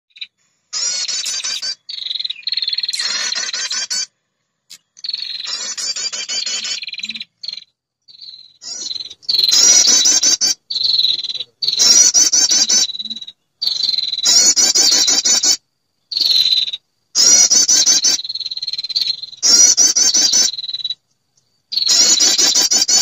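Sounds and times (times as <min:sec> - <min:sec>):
bird trilling call: 0:00.1 - 0:04.1, 0:04.7 - 0:21.0, 0:21.7 - 0:23.0.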